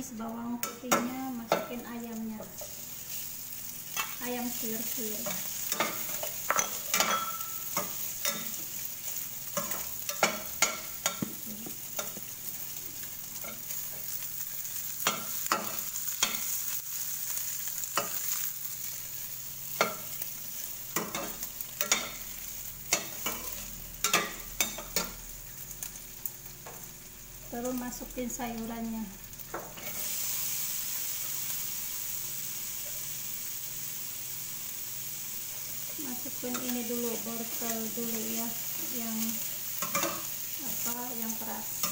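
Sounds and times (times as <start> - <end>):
chicken sizzling in oil: 0.0 - 41.9.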